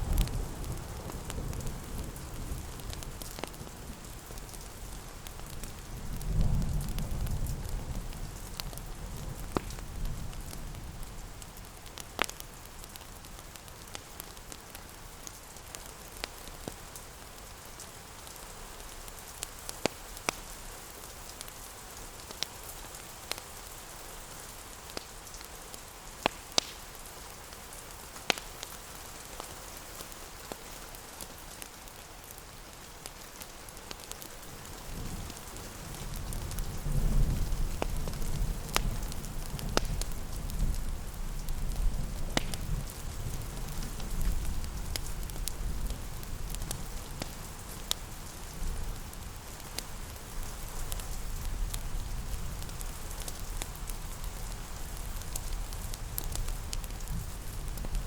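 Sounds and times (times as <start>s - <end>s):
rain hiss: 0.0s - 58.0s
wood fire crackling: 0.0s - 58.0s.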